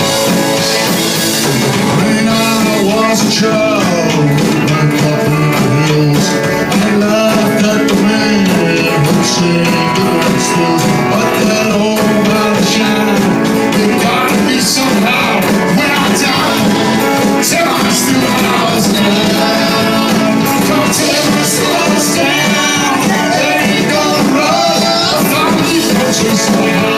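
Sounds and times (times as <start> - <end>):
guitar: 0.0 - 26.9
live country rock band: 0.0 - 26.9.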